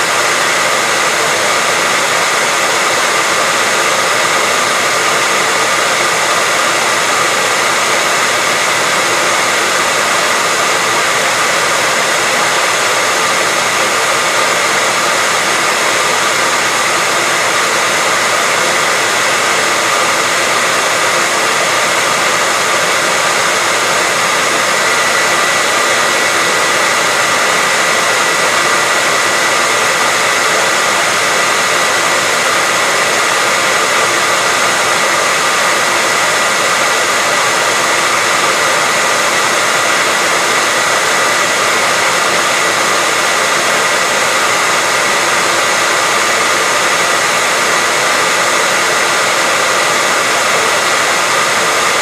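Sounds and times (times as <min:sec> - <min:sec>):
hair dryer blowing: 0:00.0 - 0:52.0.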